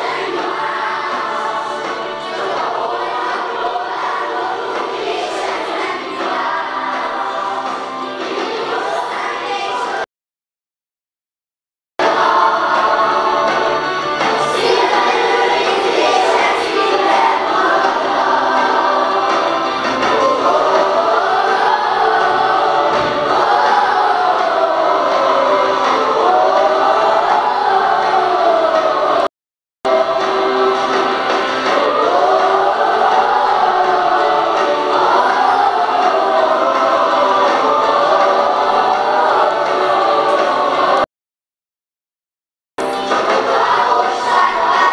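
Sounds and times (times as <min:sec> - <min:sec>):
children singing in chorus: 0:00.0 - 0:10.1, 0:12.0 - 0:29.3, 0:29.9 - 0:41.1, 0:42.8 - 0:44.9.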